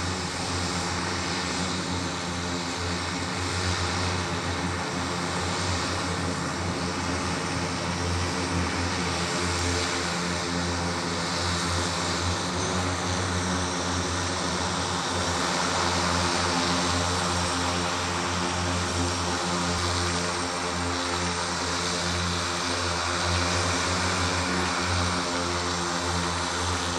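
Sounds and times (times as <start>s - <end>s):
multirotor propellers humming: 0.0s - 26.9s.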